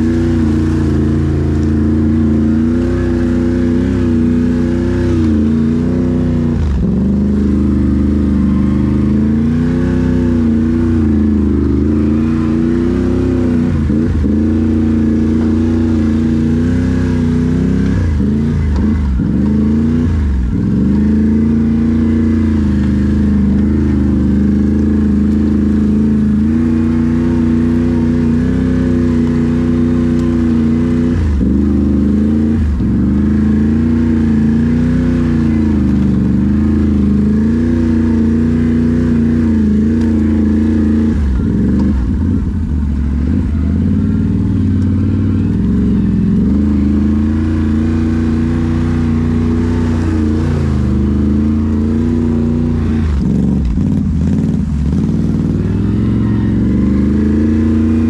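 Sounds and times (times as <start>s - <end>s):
atv engine under load: 0.0s - 58.0s.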